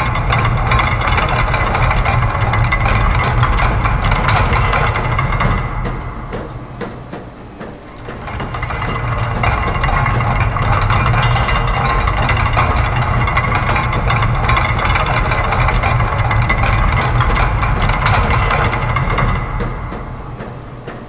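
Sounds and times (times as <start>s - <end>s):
machine hum: 0.0s - 21.0s
machine ticking and clicking: 0.0s - 21.0s.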